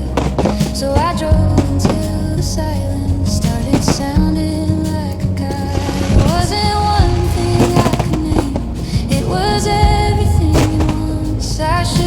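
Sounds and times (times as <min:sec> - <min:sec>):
pop music accompaniment: 0:00.0 - 0:12.0.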